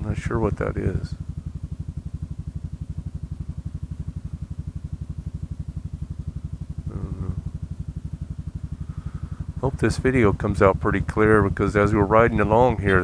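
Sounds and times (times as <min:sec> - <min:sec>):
scooter engine idling: 0:00.0 - 0:13.0.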